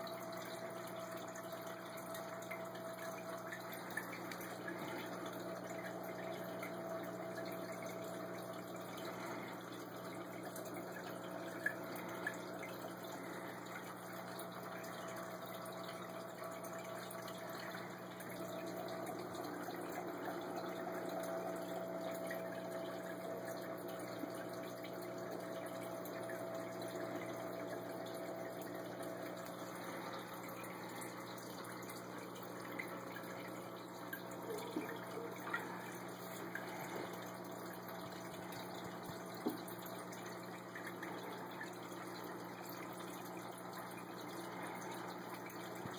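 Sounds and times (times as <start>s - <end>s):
low even hum: 0.0s - 45.9s
water bubbling and trickling: 0.0s - 45.9s.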